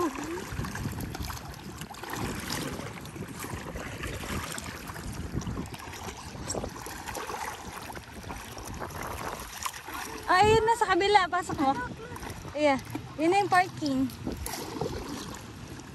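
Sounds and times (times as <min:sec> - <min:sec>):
paddle strokes splashing in water: 0:00.0 - 0:15.9
water sloshing at board: 0:00.0 - 0:15.9
wind rumbling on microphone: 0:00.0 - 0:15.9.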